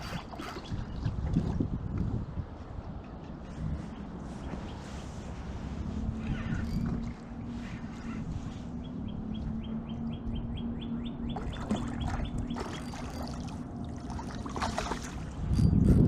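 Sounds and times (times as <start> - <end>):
low hum and rumble: 0.0 - 16.0.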